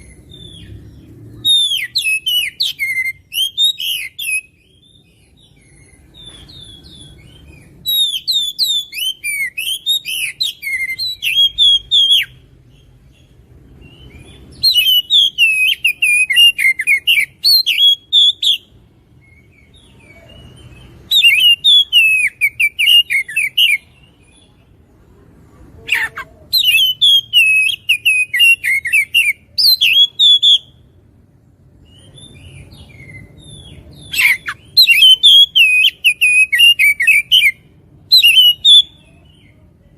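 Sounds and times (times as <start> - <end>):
bird singing whistled phrases: 1.4 - 12.4, 13.9 - 23.9, 25.9 - 30.8, 31.9 - 39.5.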